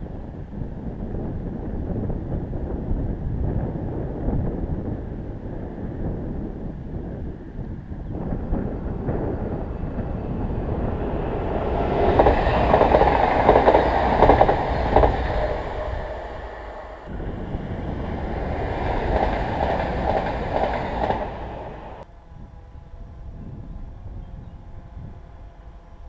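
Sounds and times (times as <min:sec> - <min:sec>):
passenger trains passing: 0:00.0 - 0:23.8.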